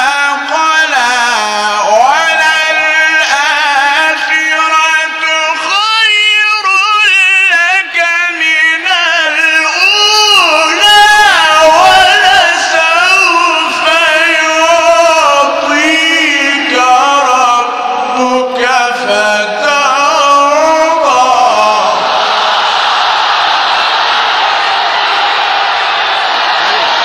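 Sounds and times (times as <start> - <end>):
man chanting melodically: 0.0 - 22.2.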